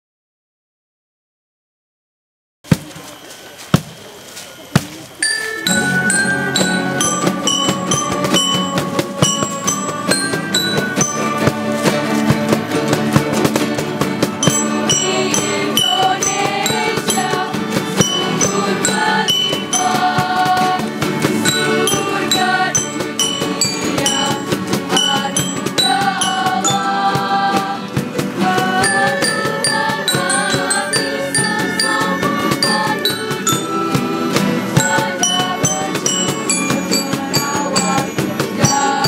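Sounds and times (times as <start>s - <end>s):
background music with percussion beat: 4.8s - 39.0s.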